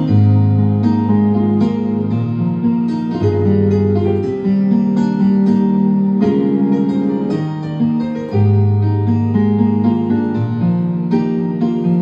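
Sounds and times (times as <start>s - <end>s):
keyboard playing sustained chords: 0.0s - 12.0s.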